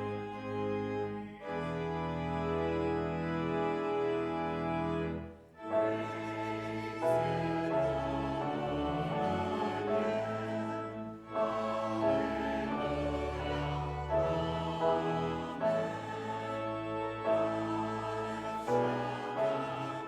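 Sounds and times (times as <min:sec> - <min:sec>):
congregation singing a hymn: 0:00.0 - 0:20.0
organ chords: 0:00.0 - 0:20.0.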